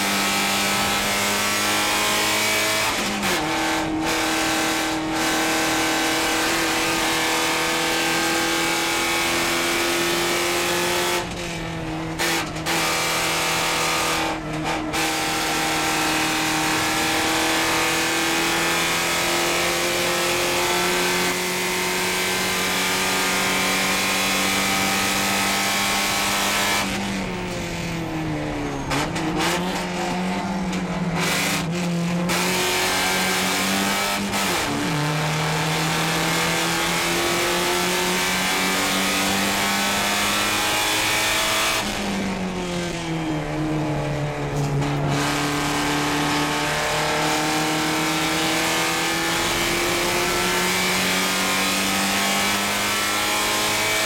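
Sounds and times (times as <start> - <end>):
engine blips on downshifts: 0.0 - 54.0
race car engine at high revs: 0.0 - 54.0.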